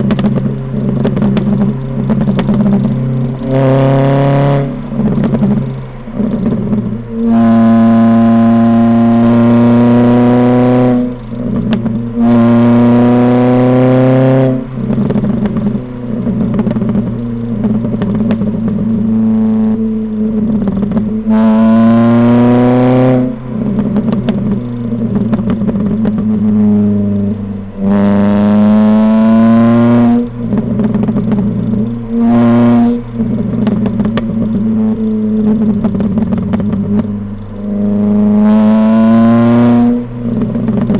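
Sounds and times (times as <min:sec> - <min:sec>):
car engine accelerating: 0:00.0 - 0:40.9
exhaust pops and crackles: 0:00.0 - 0:40.9.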